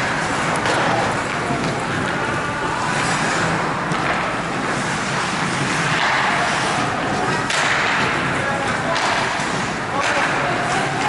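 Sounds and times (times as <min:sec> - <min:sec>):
ice hockey game noise: 0:00.0 - 0:11.0
skates scraping on ice: 0:00.0 - 0:11.0.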